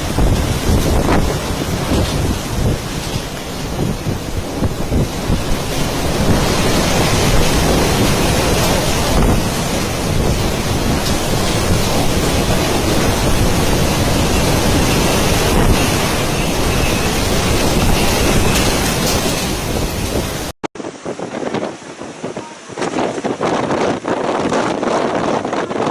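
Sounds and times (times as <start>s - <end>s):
rain: 0.0s - 25.9s
strong wind buffeting microphone: 0.0s - 25.9s.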